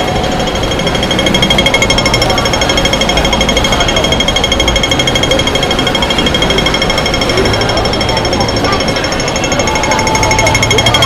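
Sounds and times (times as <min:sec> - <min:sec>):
crossing signal ticking rapidly: 0:00.0 - 0:11.0
street and crowd noise: 0:00.0 - 0:11.0.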